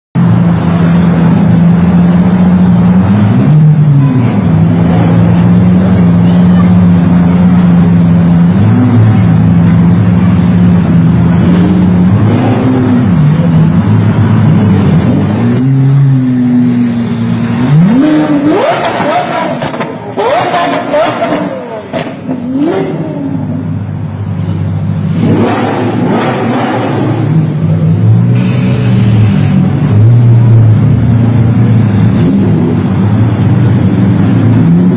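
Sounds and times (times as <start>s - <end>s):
loud car engine and exhaust: 0.1s - 34.9s.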